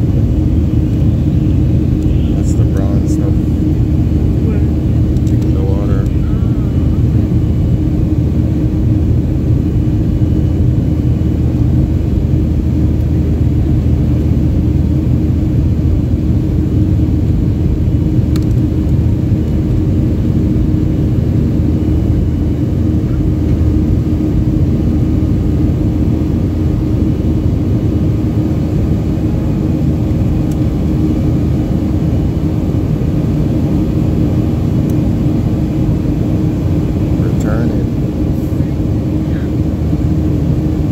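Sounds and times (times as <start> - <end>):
jet cabin engine roar: 0.0 - 40.9
low hum: 0.0 - 40.9.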